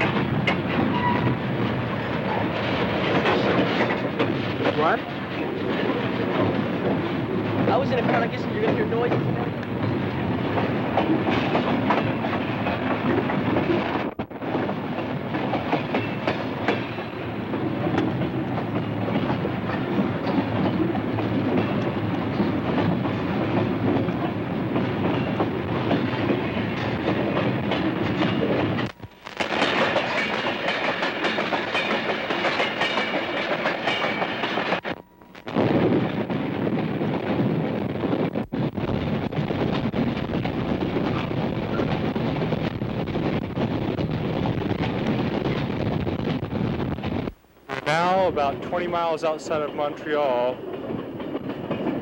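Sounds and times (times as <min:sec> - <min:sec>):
freight train rolling rumble and rattle: 0:00.0 - 0:52.0.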